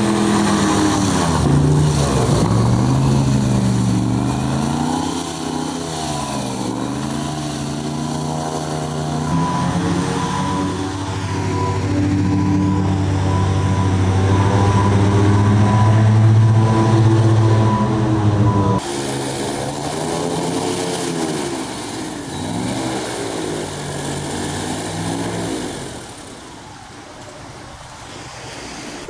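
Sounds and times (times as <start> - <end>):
airboat engine drone: 0.0 - 28.9.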